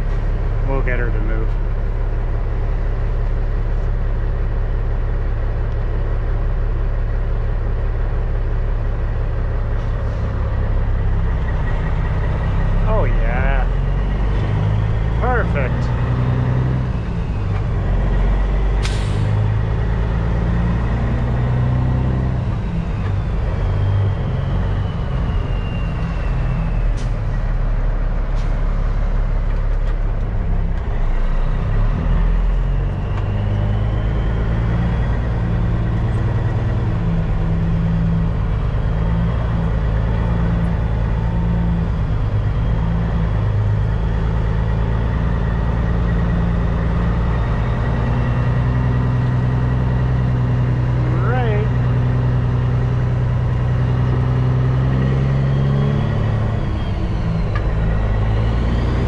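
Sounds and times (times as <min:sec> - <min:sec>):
diesel truck engine at low revs: 0:00.0 - 0:59.0.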